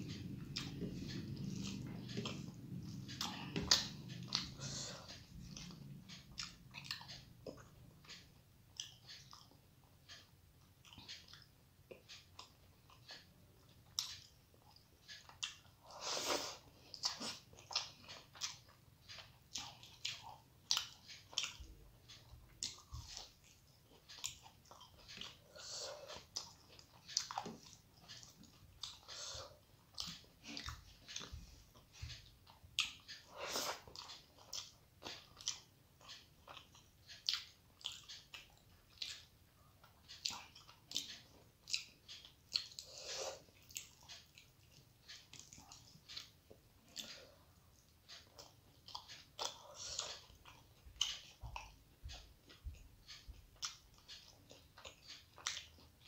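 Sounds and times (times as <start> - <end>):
person chewing with lip smacks: 0.0 - 56.0.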